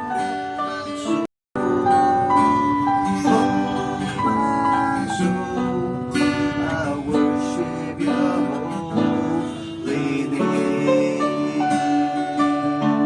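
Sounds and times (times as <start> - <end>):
acoustic guitar strumming and picking: 0.0 - 13.0
keyboard playing a melody: 0.0 - 13.0.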